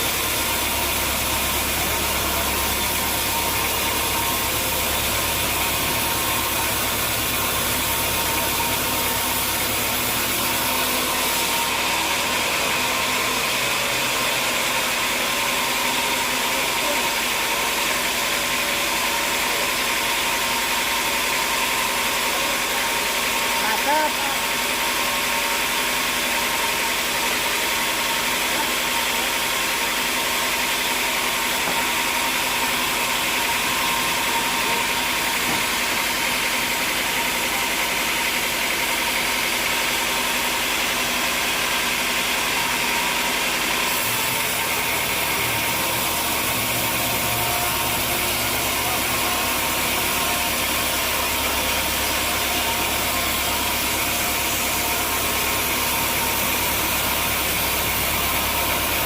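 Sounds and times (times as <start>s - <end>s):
machinery engine drone: 0.0s - 19.9s, 31.2s - 59.0s.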